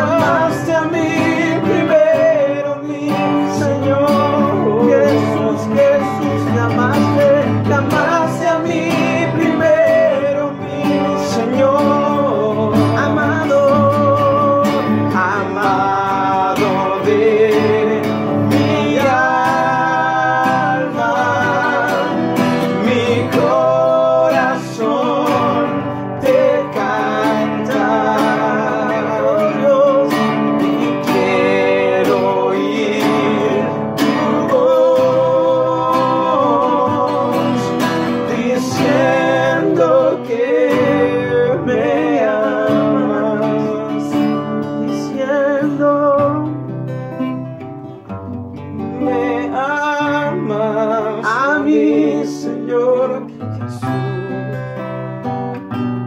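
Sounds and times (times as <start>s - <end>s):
man singing: 0.0s - 55.2s
acoustic guitars strummed: 0.0s - 56.0s.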